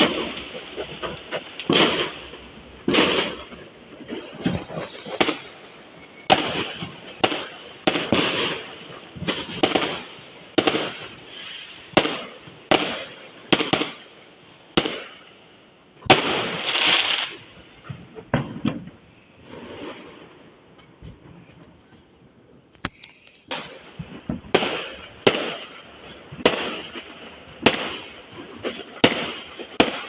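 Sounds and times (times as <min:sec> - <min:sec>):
fireworks bangs: 0:00.0 - 0:14.1, 0:16.0 - 0:21.4, 0:23.5 - 0:30.0
fireworks crackling hiss: 0:00.0 - 0:22.2, 0:22.8 - 0:30.0.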